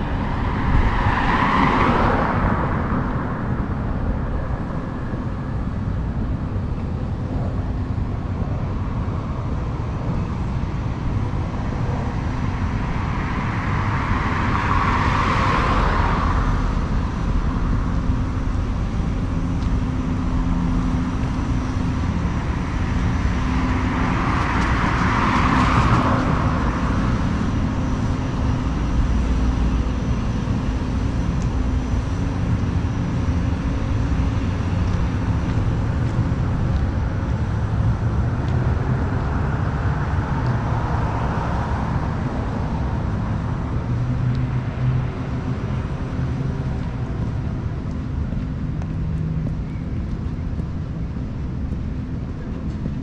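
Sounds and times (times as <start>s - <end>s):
cars passing with tyre noise: 0.0s - 53.0s
low rumble of engines: 0.0s - 53.0s.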